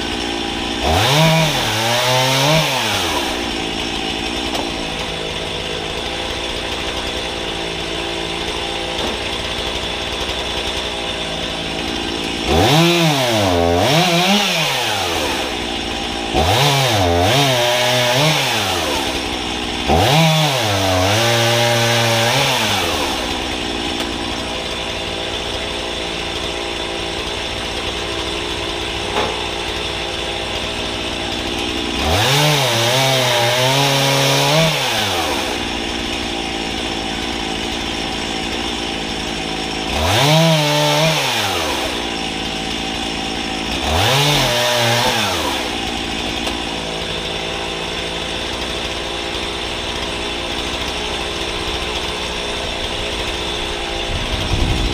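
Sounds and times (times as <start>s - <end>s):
chainsaw cutting wood: 0.0s - 54.9s
chainsaw idling and revving: 0.0s - 54.9s.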